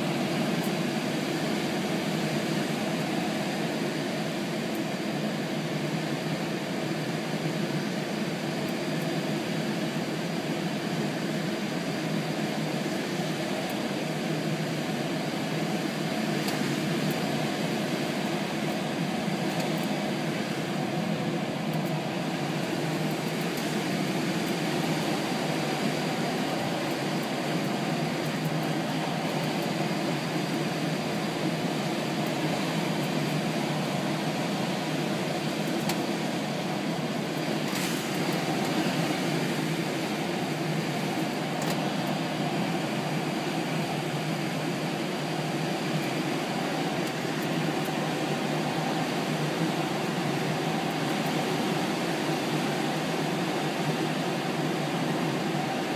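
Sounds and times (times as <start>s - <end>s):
rushing airflow hiss: 0.0s - 55.9s.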